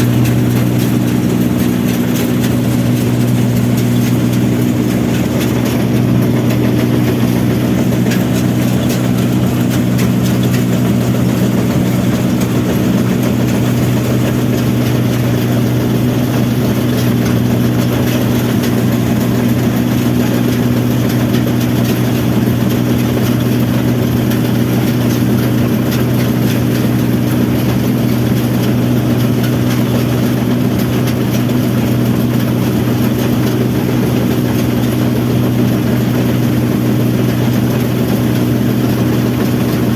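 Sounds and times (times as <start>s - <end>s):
diesel engine running: 0.0s - 39.9s
harvesting machinery hum: 0.0s - 39.9s.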